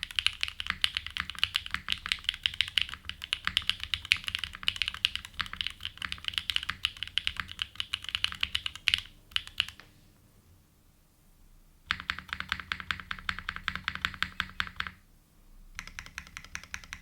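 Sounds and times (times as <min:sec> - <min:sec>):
mechanical keyboard typing: 0:00.0 - 0:09.8, 0:11.9 - 0:15.0, 0:15.8 - 0:17.0.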